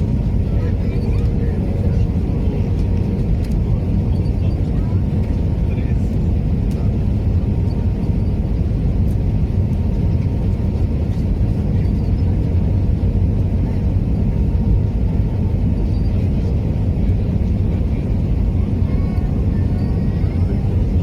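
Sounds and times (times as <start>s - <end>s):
airplane engine rumble: 0.0s - 21.0s.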